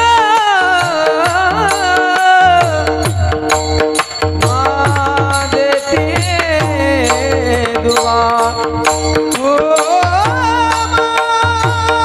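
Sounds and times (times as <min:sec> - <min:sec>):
person singing devotional song: 0:00.0 - 0:12.0.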